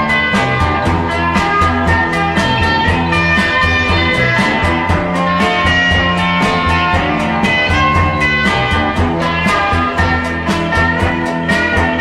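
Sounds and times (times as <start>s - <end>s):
fast drum beat: 0.0s - 12.0s
psychedelic rock band playing: 0.0s - 12.0s.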